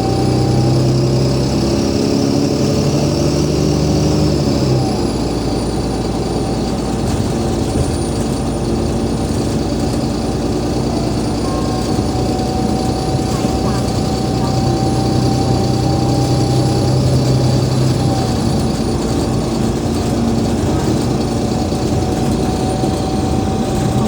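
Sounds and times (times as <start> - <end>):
bus engine humming drone: 0.0 - 24.0
low rough engine rumble: 0.0 - 24.0
road noise: 0.0 - 24.0.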